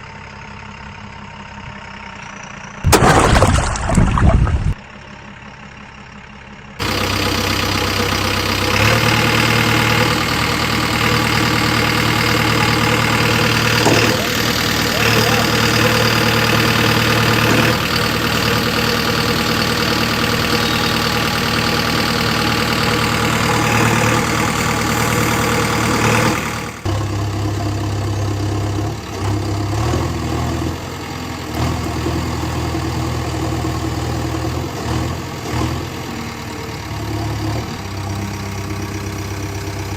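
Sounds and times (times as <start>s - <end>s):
vehicle engine idling: 0.0s - 2.9s, 4.7s - 39.9s.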